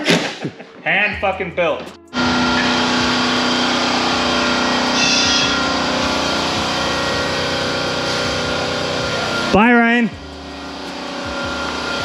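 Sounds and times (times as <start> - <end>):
car engine running: 2.0 - 12.0.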